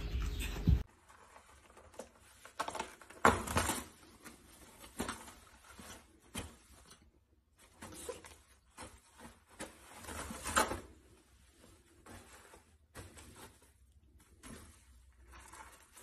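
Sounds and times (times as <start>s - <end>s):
paper rustles and scratches: 0.8s - 16.0s.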